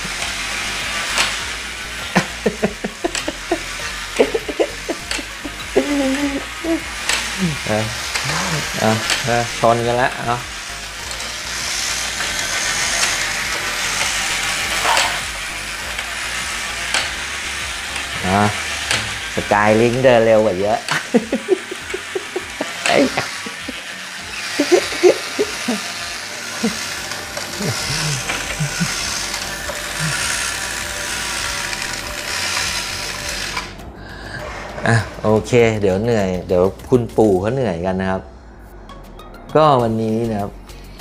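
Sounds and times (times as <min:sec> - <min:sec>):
toy motor whirring: 0:00.0 - 0:37.3.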